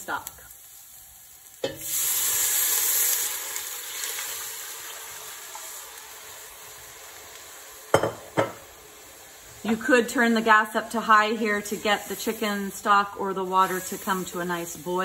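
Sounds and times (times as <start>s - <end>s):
liquid sizzling in hot pan: 0.0s - 15.0s.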